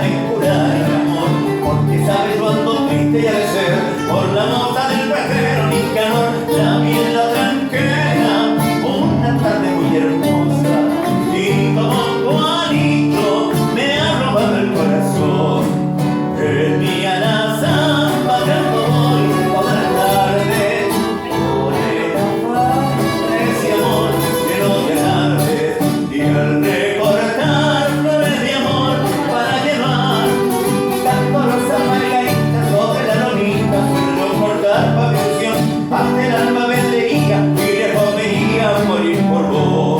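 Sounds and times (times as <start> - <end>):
strummed and picked guitars: 0.0 - 39.9.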